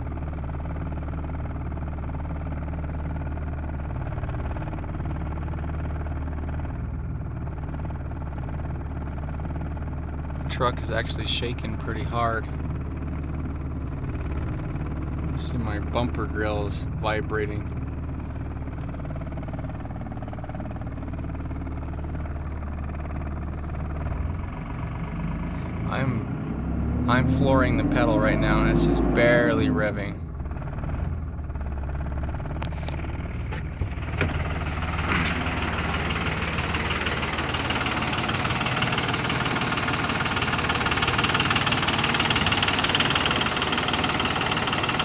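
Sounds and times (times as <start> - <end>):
diesel engine misfiring: 0.0 - 45.0.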